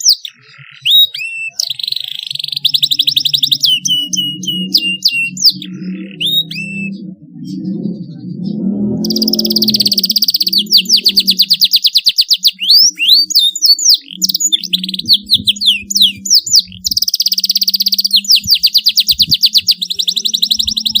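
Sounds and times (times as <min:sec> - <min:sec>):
canary singing trills: 0:00.0 - 0:21.0.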